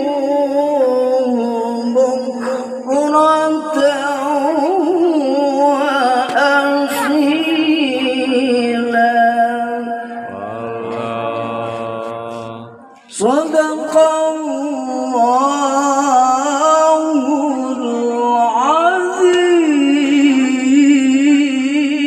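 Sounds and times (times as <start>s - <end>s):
man chanting recitation: 0.0s - 22.0s.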